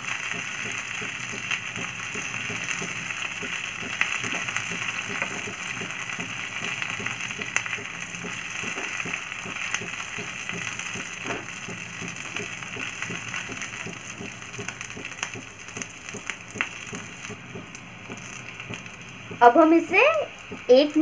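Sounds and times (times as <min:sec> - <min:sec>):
oil popping: 0:00.0 - 0:20.8
chillies sizzling in hot oil: 0:00.0 - 0:21.0.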